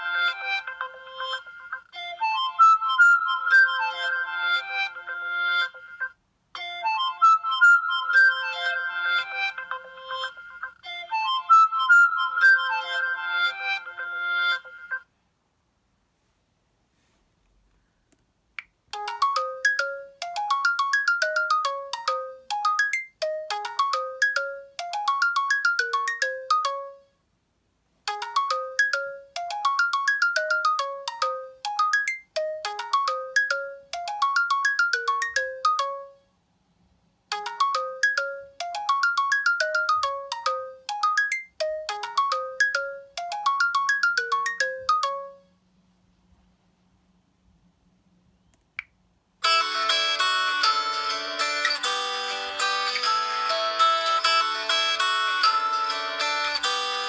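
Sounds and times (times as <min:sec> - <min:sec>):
phone ringtone chiming melody: 0:00.0 - 0:15.0, 0:19.0 - 0:27.1, 0:28.1 - 0:36.2, 0:37.3 - 0:45.5, 0:49.4 - 0:57.0.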